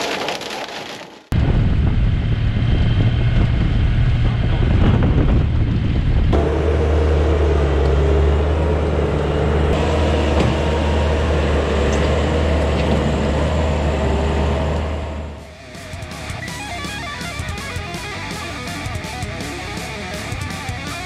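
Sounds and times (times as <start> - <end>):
diesel engine running: 1.4 - 21.0.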